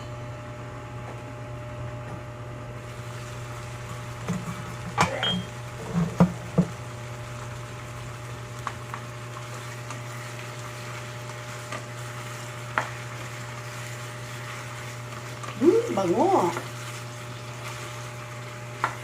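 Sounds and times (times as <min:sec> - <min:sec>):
chicken sizzling in a pan: 0:02.6 - 0:19.0.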